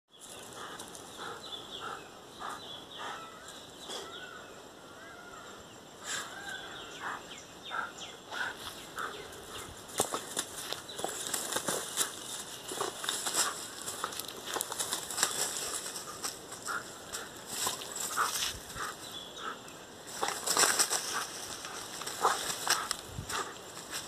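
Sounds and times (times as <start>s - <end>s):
birds chirping and calling: 0.1s - 24.0s.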